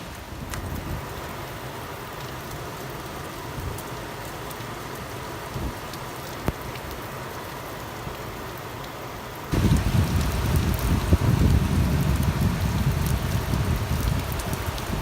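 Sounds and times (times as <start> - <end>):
raindrops ticking: 0.0 - 15.0
steady rain falling: 0.0 - 15.0.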